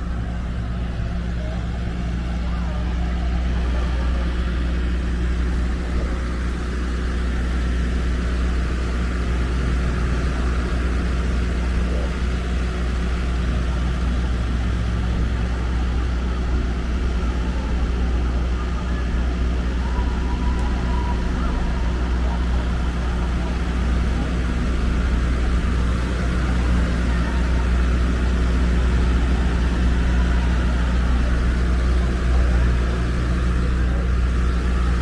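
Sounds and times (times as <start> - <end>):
city street noise: 0.0 - 35.0
vehicle engine idling: 0.0 - 35.0.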